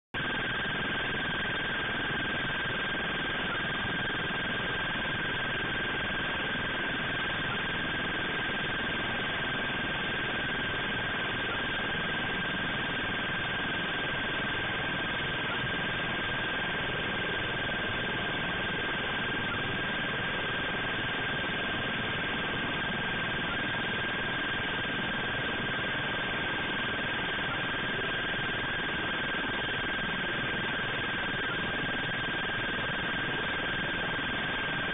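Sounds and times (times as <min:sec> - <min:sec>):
continuous high whine: 0:00.2 - 0:34.9.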